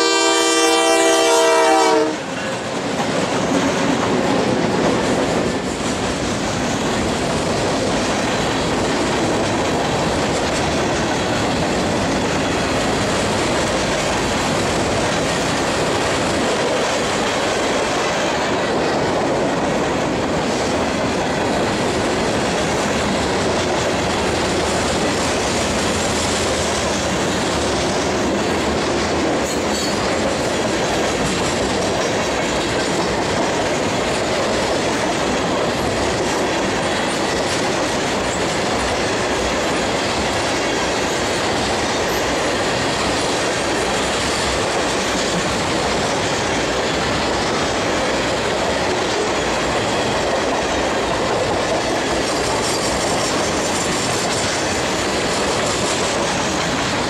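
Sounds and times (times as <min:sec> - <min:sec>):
train wheels clattering on rail joints: 0:00.0 - 0:57.0.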